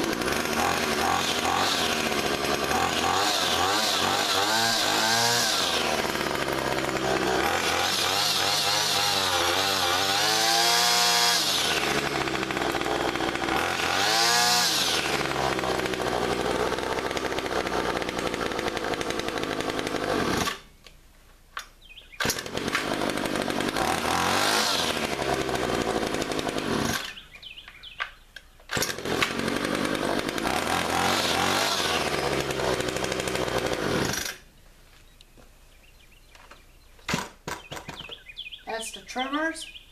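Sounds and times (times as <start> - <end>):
string trimmer engines revving: 0.0 - 20.7, 22.2 - 28.0, 28.7 - 34.4.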